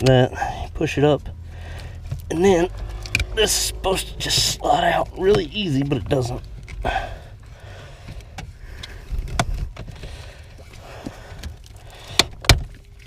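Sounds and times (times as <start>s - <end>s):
low handling rumble: 0.0s - 13.0s.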